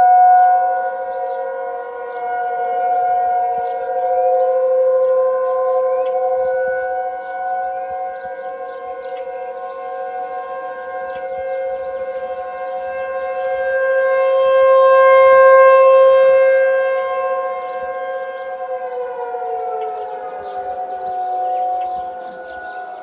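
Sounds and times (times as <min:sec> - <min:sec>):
warning siren steady tone: 0:00.0 - 0:23.0.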